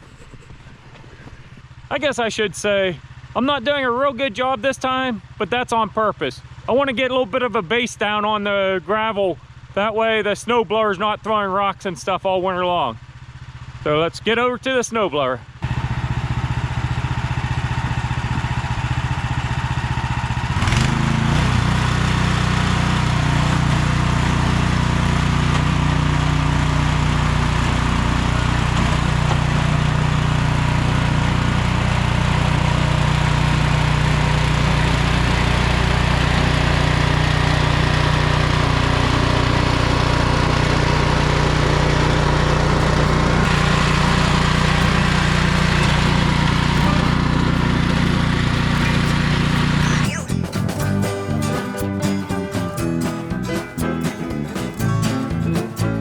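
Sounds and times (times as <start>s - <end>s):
snowblower engine running: 0.0s - 14.4s, 15.4s - 56.0s.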